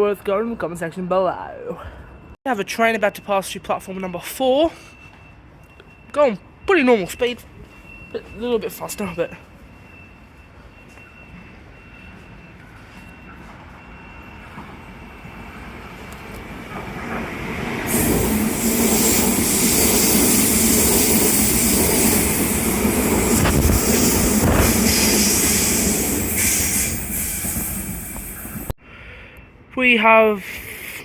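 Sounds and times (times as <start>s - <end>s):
train passing: 0.2s - 28.8s.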